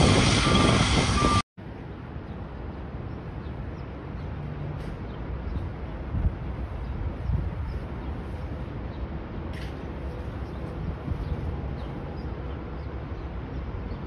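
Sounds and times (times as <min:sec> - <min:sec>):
wind: 0:00.0 - 0:14.0
distant traffic rumble: 0:01.6 - 0:14.0.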